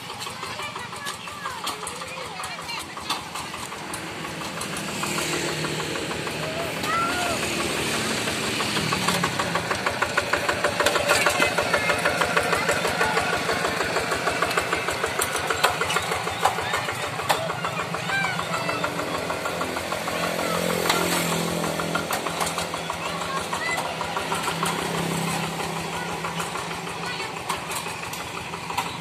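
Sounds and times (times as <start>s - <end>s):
diesel engine chugging: 0.0s - 29.0s.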